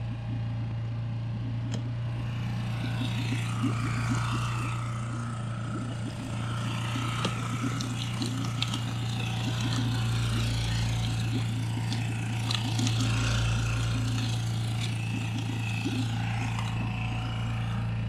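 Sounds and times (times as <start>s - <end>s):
outboard motor running: 0.0s - 18.0s
water splashing against hull: 2.6s - 17.6s.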